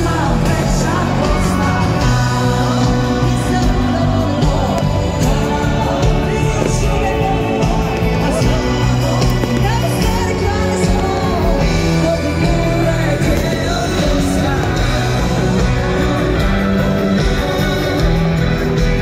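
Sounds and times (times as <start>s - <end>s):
live pop-rock band with singing: 0.0s - 19.0s.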